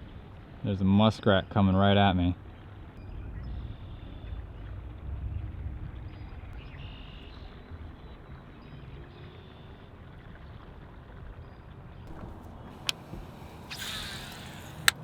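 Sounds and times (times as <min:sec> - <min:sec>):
low outdoor rumble: 0:02.3 - 0:15.0.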